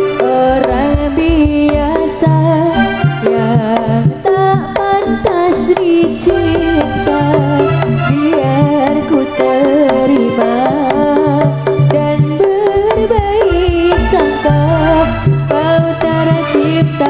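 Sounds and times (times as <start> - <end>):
gamelan music: 0.0 - 17.0
hand drum strokes: 0.2 - 17.0.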